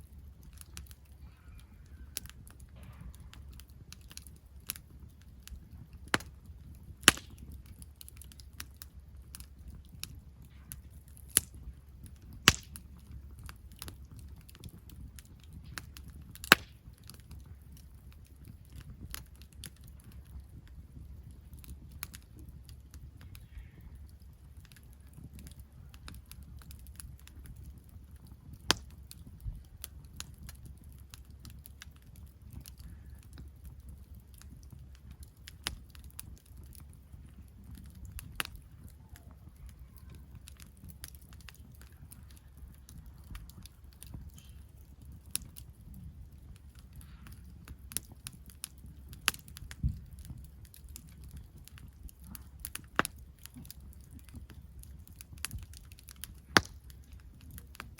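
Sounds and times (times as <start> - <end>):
burning wood popping: 0.0 - 57.9
campfire crackling: 0.0 - 57.9
low steady rumble: 0.0 - 57.9.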